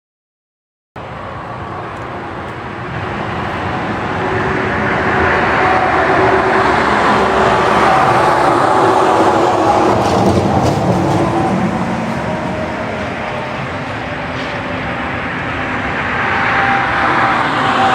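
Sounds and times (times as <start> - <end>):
vehicle rumble: 1.0 - 17.9.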